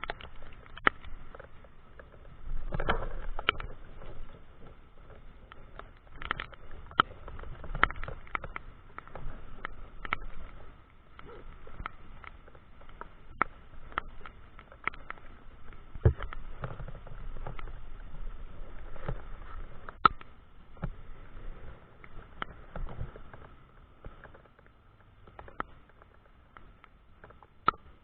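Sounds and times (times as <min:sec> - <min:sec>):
rain pattering on microphone: 0:00.0 - 0:28.0.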